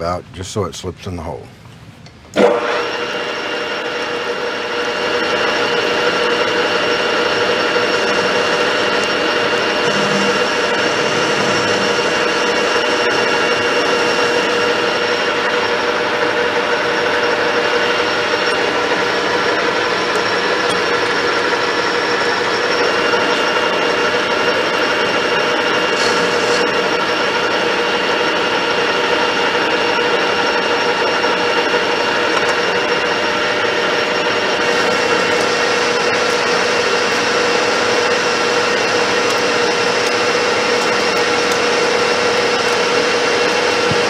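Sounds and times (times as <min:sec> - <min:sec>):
higher whine: 0:02.3 - 0:44.0
lathe spindle gear whine: 0:02.4 - 0:44.0.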